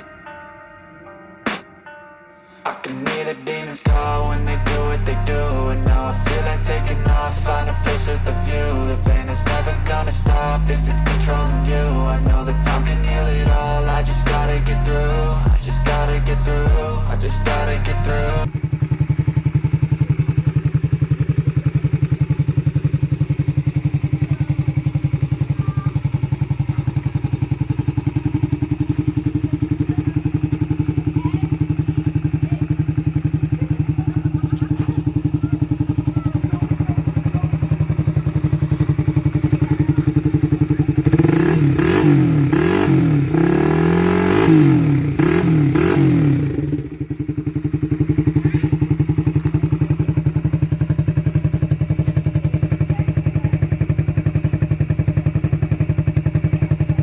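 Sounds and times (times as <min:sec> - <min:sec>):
motorcycle engine idling and revving: 0:03.9 - 0:57.0.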